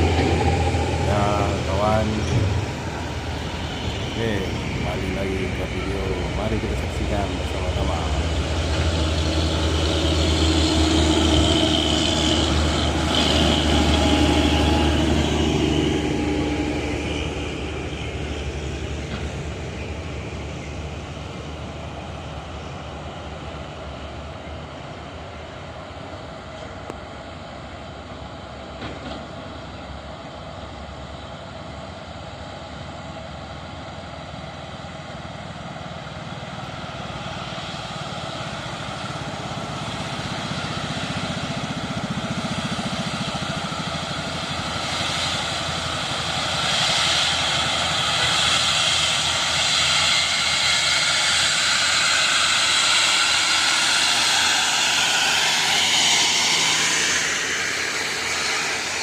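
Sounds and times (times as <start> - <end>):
heavy truck engine running: 0.0 - 59.0.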